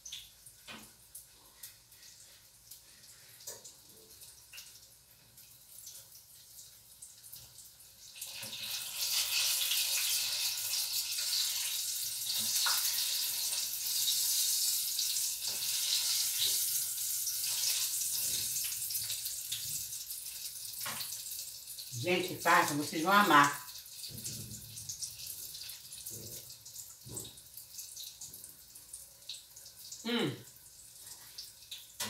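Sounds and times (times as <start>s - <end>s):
fritters sizzling in hot oil: 0.0s - 32.0s.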